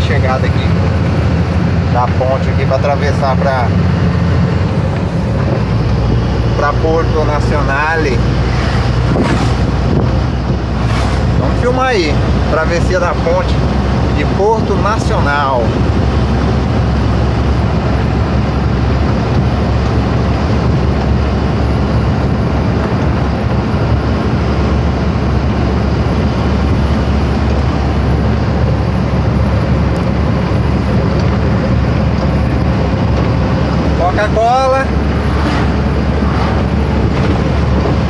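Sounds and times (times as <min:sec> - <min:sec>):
diesel engine drone: 0:00.0 - 0:38.0
wind noise: 0:03.2 - 0:38.0.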